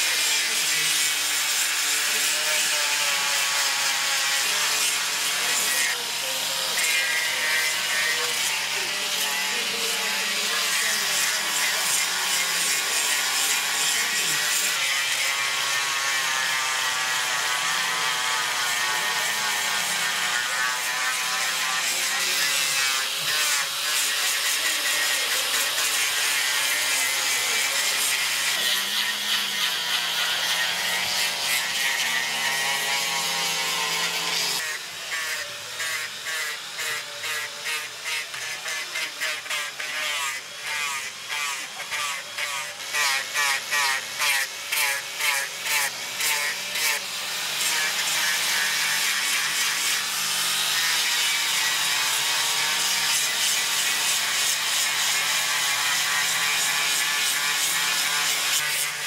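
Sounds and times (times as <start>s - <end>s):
chainsaws cutting wood: 0.0s - 59.0s.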